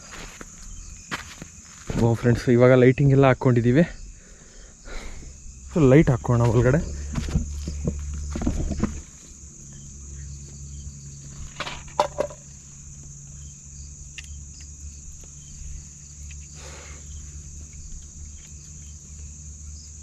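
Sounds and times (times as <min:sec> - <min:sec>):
crickets and insects chirring: 0:00.0 - 0:20.0.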